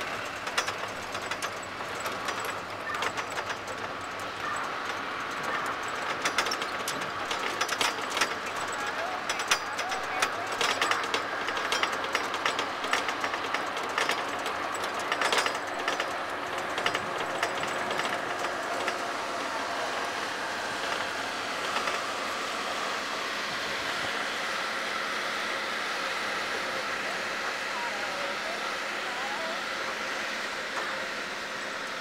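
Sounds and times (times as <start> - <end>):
rattle of ride over rough dirt: 0.0 - 32.0.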